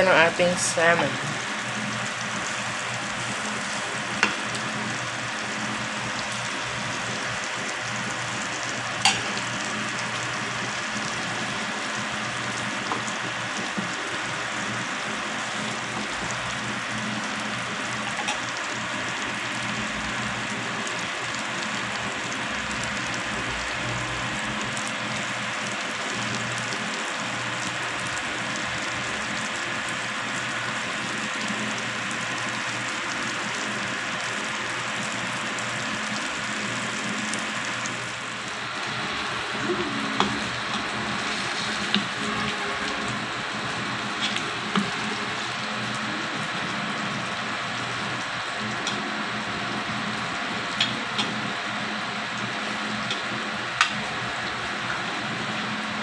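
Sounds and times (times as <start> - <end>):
fish sizzling in a pan: 0.0 - 55.4.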